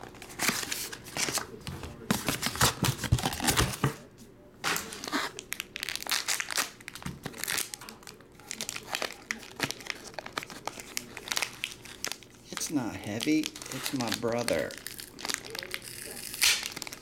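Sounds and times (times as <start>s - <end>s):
plastic wrapper crinkling and tearing: 0.0s - 3.9s, 4.7s - 17.0s.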